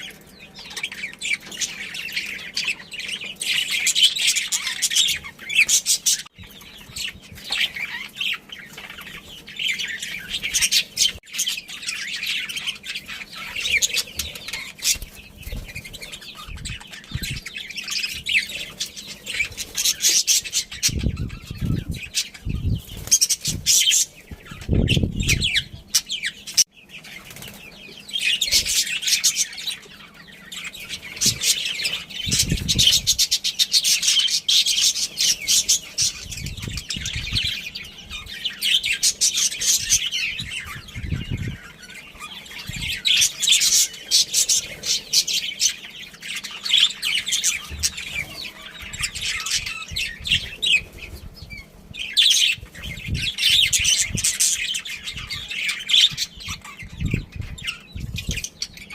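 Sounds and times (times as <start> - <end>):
budgerigars chattering: 0.0 - 58.9.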